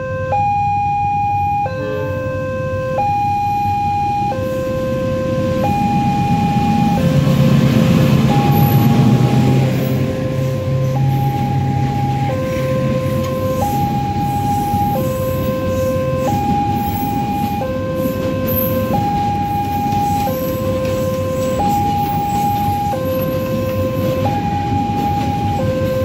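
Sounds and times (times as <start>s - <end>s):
level crossing two-tone alarm: 0.0s - 26.0s
train engine drone: 0.0s - 26.0s.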